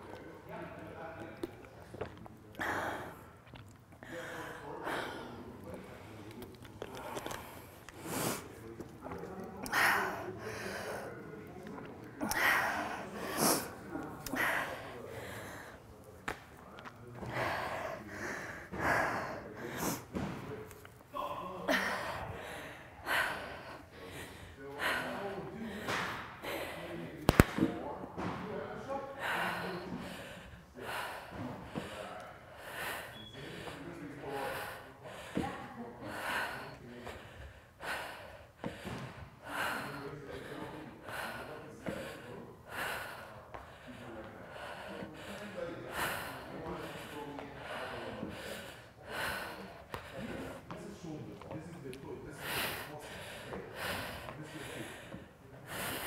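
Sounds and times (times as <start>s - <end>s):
woman breathing heavily: 2.0s - 27.7s, 29.1s - 51.6s, 52.3s - 56.0s.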